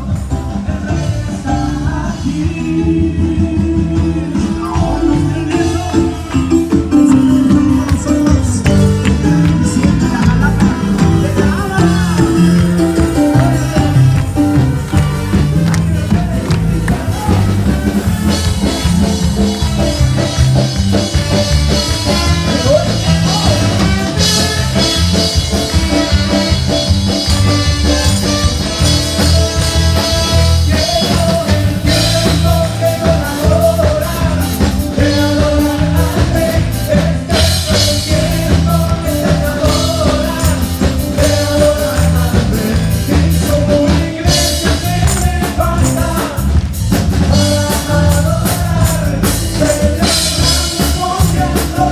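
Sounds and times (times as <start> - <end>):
live band playing upbeat song: 0.0 - 51.9.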